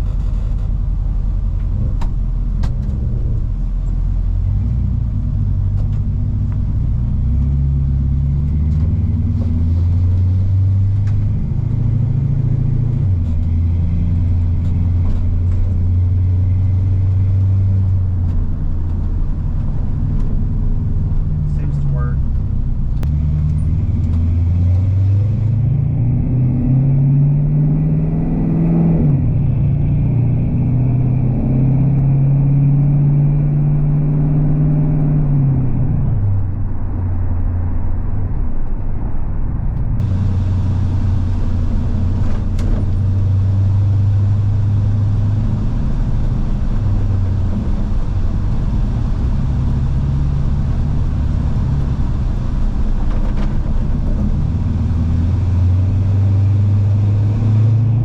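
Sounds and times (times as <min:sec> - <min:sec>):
truck engine accelerating: 0:00.0 - 0:58.0.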